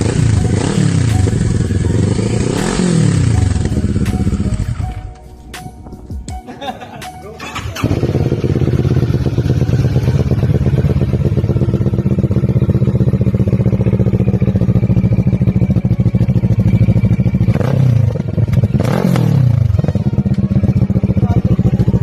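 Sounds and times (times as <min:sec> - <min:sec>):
motorcycle engine idling: 0:00.0 - 0:05.1, 0:07.4 - 0:22.0
motorcycle engine revving: 0:00.0 - 0:05.2, 0:07.4 - 0:22.0.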